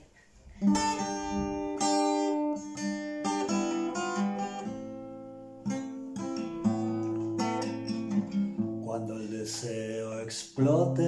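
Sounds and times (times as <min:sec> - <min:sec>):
acoustic guitar chords: 0:00.6 - 0:11.0.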